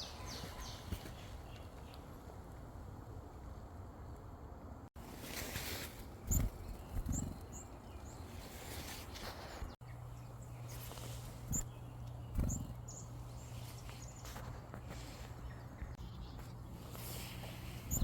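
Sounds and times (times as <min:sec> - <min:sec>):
small birds chirping: 0:00.0 - 0:02.3, 0:05.2 - 0:18.0
faint outdoor background noise: 0:00.0 - 0:18.0.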